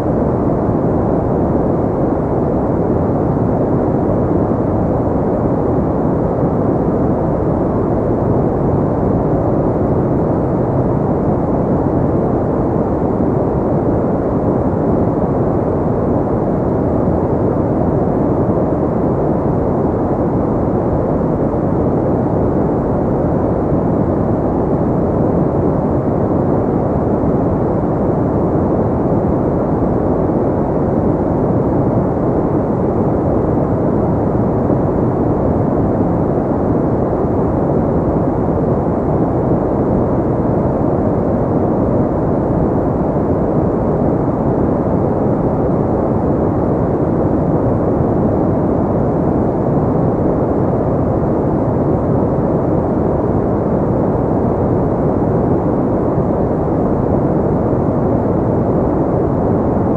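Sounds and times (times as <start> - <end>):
steady pink noise: 0.0 - 59.9.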